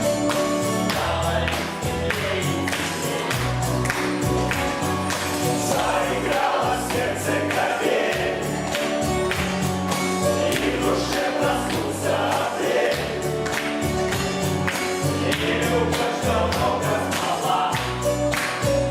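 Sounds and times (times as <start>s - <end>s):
group singing: 0.0s - 18.6s
bass line: 0.0s - 18.9s
music with steady beat: 0.0s - 18.9s.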